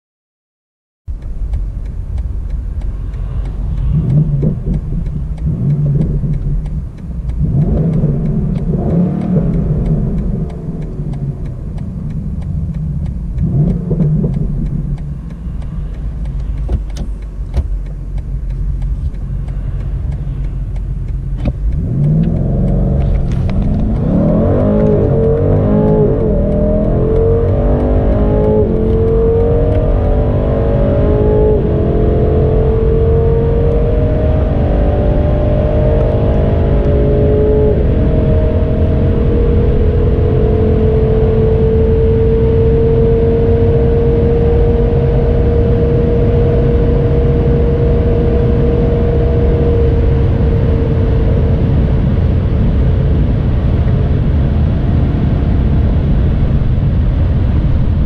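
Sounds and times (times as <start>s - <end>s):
car engine revving: 1.1s - 58.0s
car accelerating through gears: 1.2s - 58.0s.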